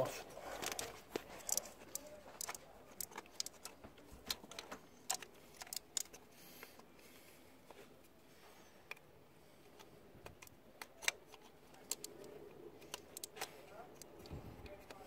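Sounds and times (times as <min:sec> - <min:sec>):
light clicks of plastic connectors: 0:00.6 - 0:07.0, 0:08.8 - 0:15.0.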